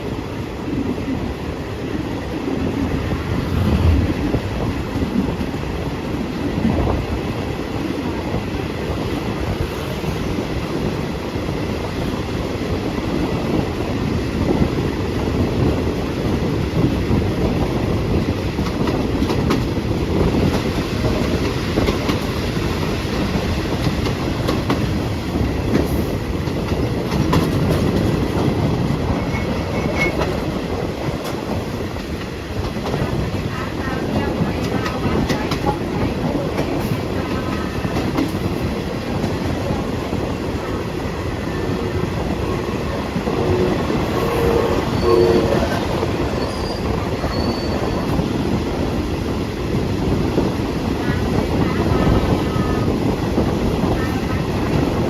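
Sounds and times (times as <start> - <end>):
train rail rumble: 0.0 - 55.0.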